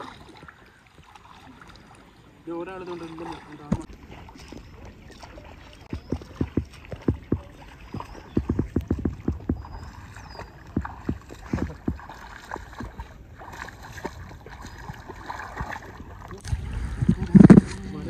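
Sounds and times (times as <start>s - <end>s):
feet splashing through water: 0.0s - 18.0s.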